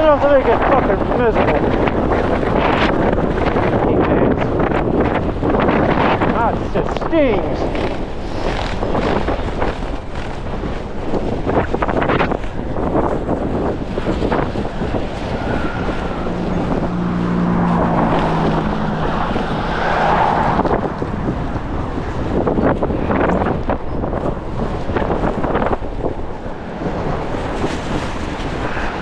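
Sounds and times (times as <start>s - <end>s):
gusty wind on microphone: 0.0s - 29.0s
vehicle engine hum: 0.0s - 29.0s.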